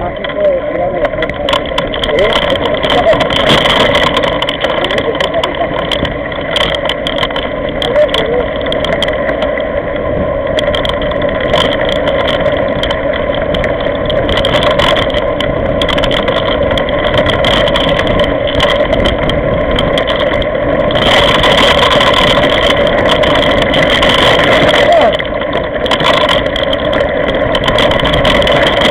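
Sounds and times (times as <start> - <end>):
bike tyres rolling on gravel: 0.0 - 28.9
stones and bike rattling: 0.0 - 28.9.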